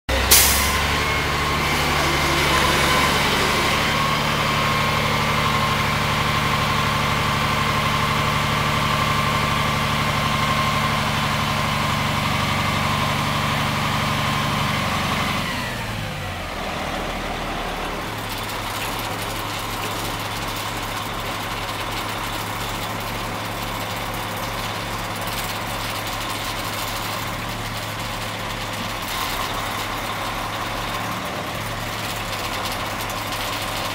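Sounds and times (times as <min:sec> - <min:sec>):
crane diesel engine running: 0:00.1 - 0:33.9.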